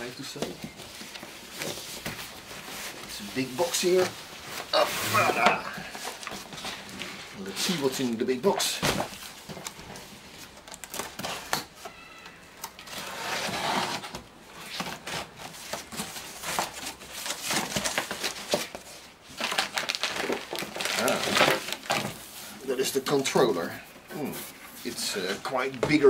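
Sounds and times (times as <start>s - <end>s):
cardboard flaps scraping and rustling: 0.0s - 11.9s, 12.8s - 26.0s.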